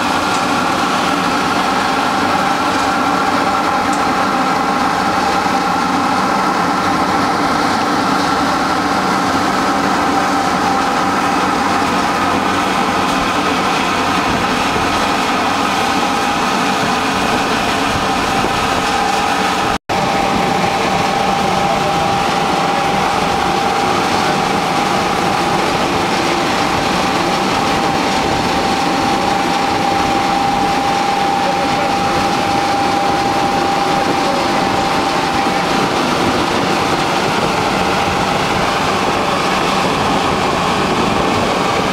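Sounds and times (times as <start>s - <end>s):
high machine whine: 0.0s - 41.9s
loud steady machine noise: 0.0s - 41.9s.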